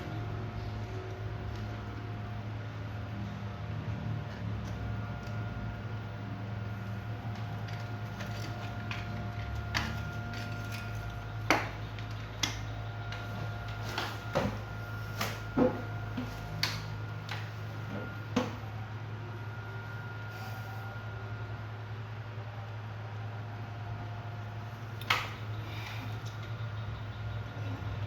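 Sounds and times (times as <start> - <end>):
faint high whine: 0.0 - 28.0
steady low hum: 0.0 - 28.0.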